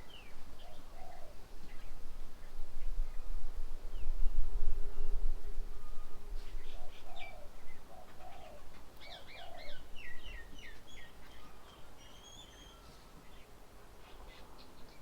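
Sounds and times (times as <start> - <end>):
songbirds chirping and calling: 0.0 - 4.2, 5.8 - 15.0.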